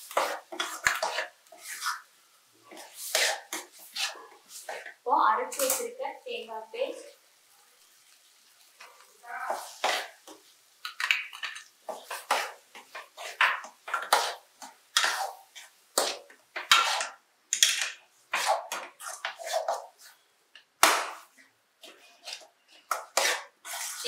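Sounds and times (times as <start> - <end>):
metal spatula scraping a pan: 0.0 - 2.1, 2.7 - 6.0, 8.8 - 20.3, 21.3 - 24.0.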